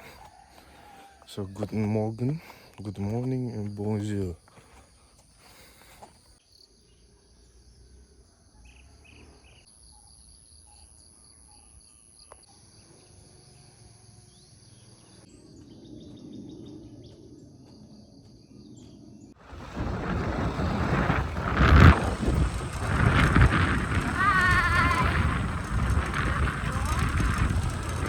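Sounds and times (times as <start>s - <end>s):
insects trilling and buzzing: 0.0s - 28.0s.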